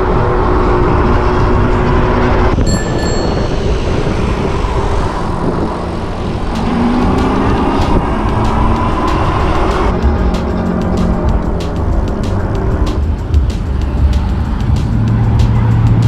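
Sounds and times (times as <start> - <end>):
traffic and road noise: 0.0 - 16.0.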